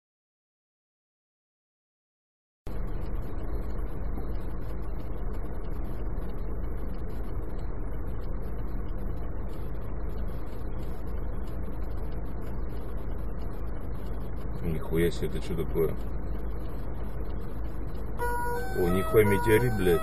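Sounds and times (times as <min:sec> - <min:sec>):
car idling: 0:02.7 - 0:20.0.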